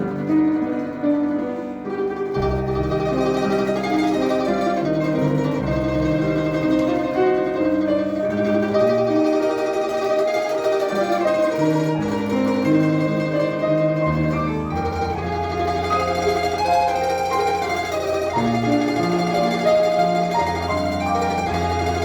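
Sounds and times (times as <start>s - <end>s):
plucked string chamber music: 0.0s - 22.0s.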